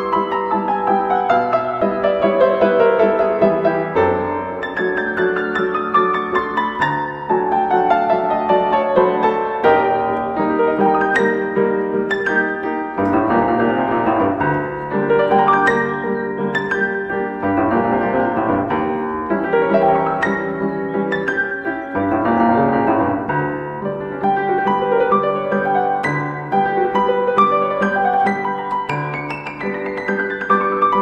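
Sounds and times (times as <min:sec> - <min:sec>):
piano melody over chords: 0:00.0 - 0:31.0.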